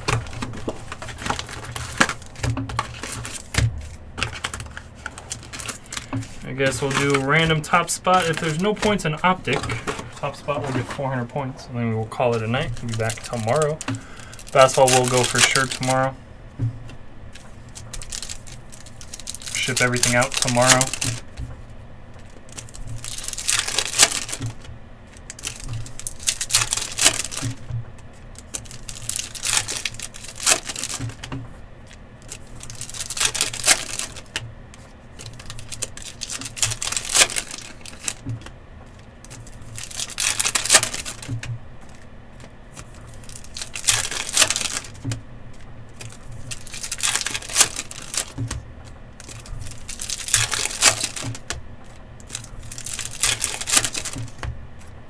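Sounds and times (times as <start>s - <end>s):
foil wrappers tearing: 0.0s - 11.0s, 12.1s - 16.1s, 17.6s - 21.4s, 22.2s - 31.3s, 31.9s - 38.2s, 38.9s - 42.1s, 42.7s - 45.1s, 45.9s - 48.6s, 49.2s - 54.9s
cards being handled: 0.0s - 11.6s, 12.2s - 16.1s, 16.9s - 55.0s.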